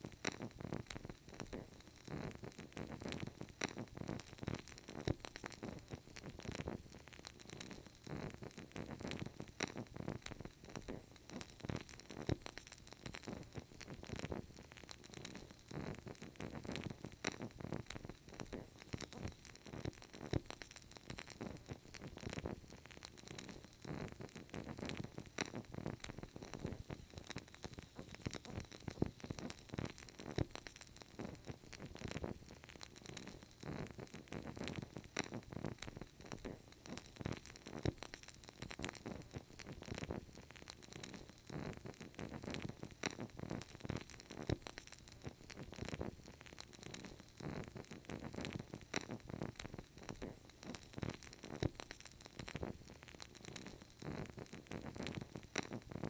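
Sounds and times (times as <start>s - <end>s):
candle crackling: 0.0s - 56.0s.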